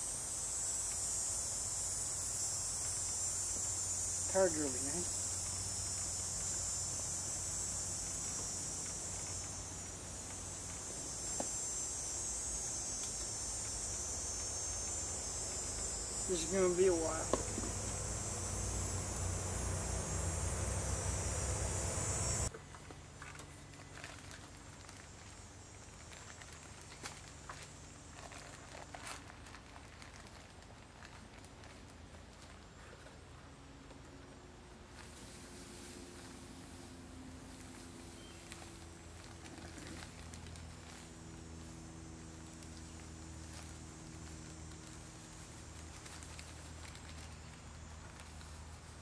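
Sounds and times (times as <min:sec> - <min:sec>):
insect chorus buzzing: 0:00.0 - 0:22.5, 0:23.2 - 0:31.4, 0:32.4 - 0:49.0
faint low hum: 0:00.0 - 0:49.0.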